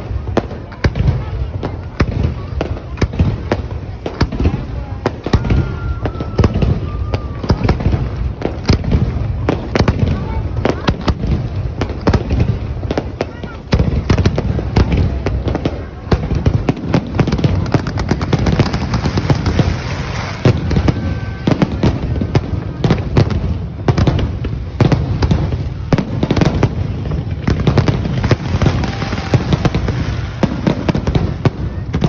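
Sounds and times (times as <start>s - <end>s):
firework bangs and crackles: 0.0s - 32.0s.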